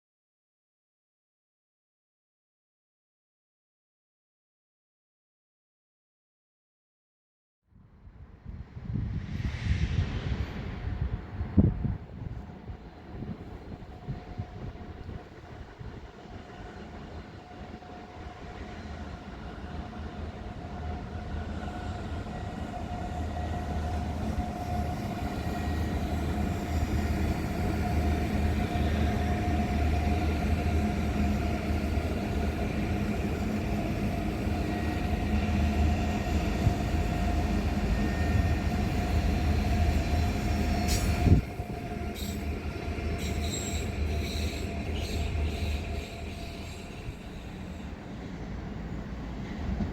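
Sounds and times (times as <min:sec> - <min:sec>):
train running past: 0:08.4 - 0:49.9.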